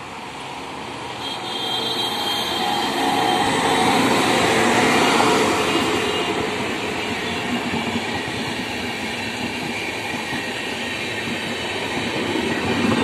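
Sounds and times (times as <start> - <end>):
electric locomotive passing: 0.0 - 13.0
train wheels on rails: 0.0 - 13.0.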